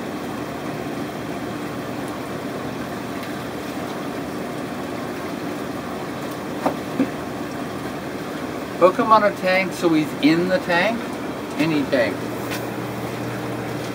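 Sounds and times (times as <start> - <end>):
aquarium equipment humming: 0.0 - 13.9.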